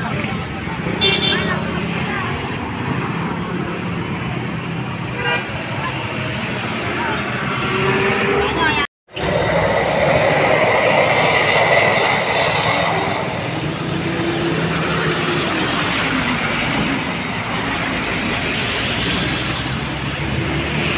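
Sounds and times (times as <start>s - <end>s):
vehicle engines on street: 0.0s - 20.9s.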